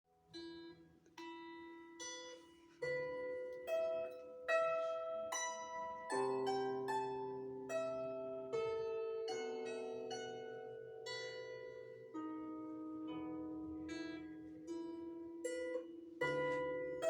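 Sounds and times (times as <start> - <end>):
plucked string instrument melody: 0.1 - 17.0.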